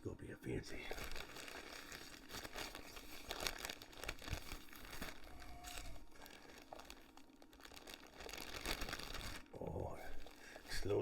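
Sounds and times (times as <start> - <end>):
packaging rustling and crinkling: 0.7 - 11.0.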